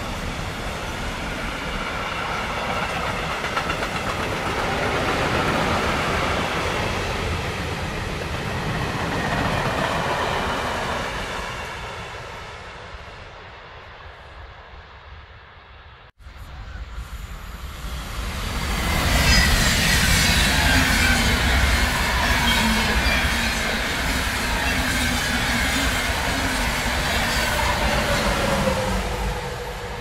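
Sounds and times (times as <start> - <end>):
freight train wheels rumbling on rails: 0.0 - 14.8, 16.0 - 30.0.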